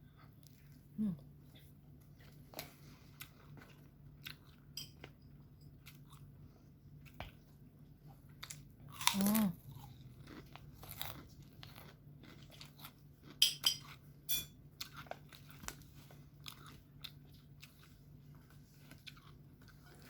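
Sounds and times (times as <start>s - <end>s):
chewing: 1.6s - 5.2s, 5.8s - 14.0s, 14.8s - 20.0s.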